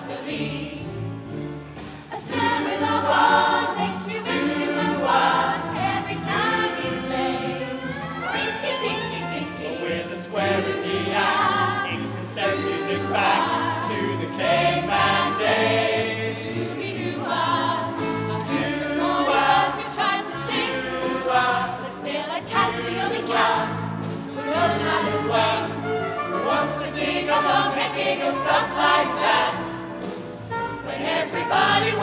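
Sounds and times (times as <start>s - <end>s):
mixed choir singing: 0.0s - 32.0s.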